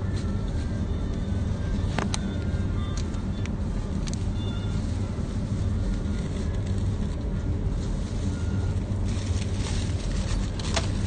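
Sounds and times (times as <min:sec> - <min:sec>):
supermarket low rumble: 0:00.0 - 0:11.0.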